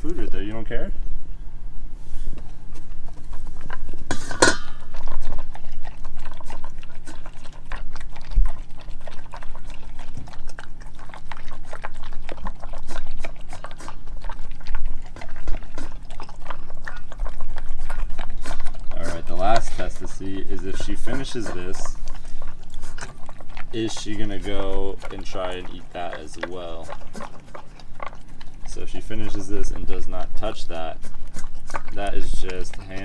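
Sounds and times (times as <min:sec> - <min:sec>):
dog crunching kibble from metal bowl: 0:02.4 - 0:33.0.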